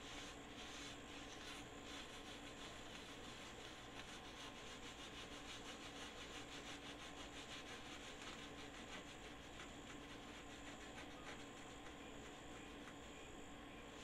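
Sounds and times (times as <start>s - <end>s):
paper towel rubbing a grill plate: 0.0s - 14.0s.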